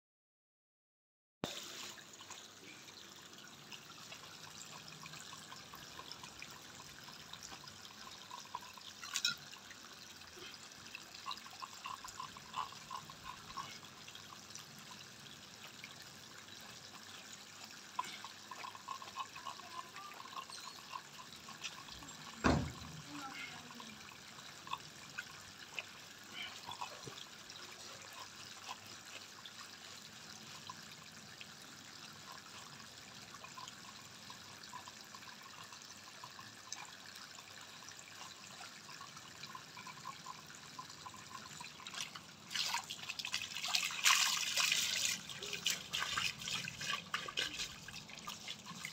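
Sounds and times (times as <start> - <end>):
water trickling from hose onto bricks: 1.4 - 48.9.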